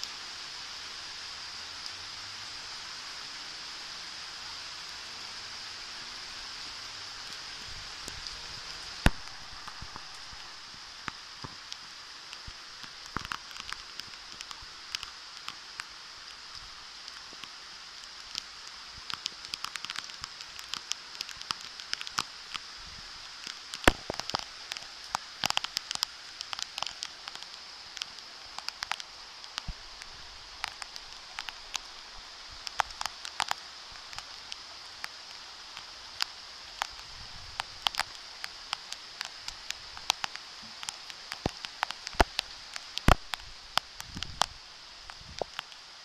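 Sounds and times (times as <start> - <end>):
raindrops tapping on paving and leaves: 0.0 - 46.0
steady rain hissing: 0.0 - 46.0.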